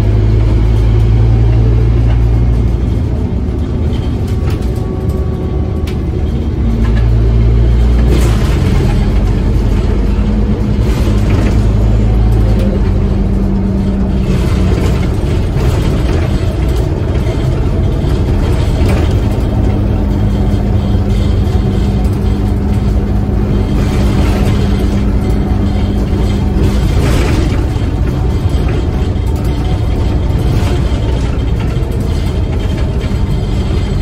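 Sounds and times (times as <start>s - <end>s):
bus diesel engine from cabin: 0.0s - 34.0s
road noise: 0.0s - 34.0s.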